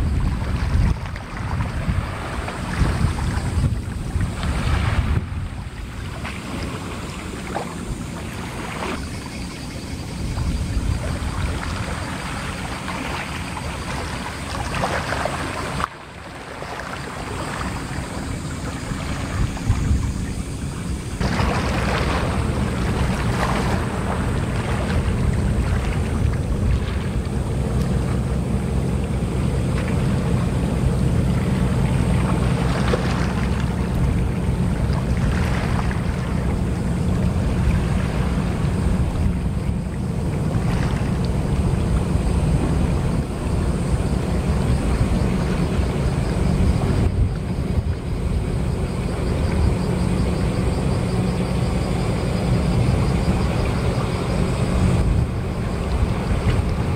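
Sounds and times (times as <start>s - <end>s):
low engine hum: 0.0s - 56.9s
wind rumbling on microphone: 0.0s - 56.9s.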